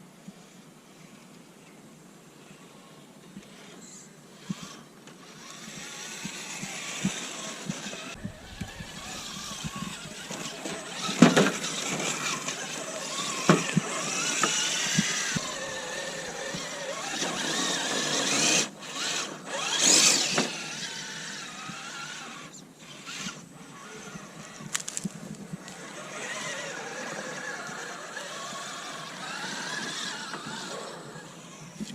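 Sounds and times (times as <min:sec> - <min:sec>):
electric motor whining: 0:04.4 - 0:31.9.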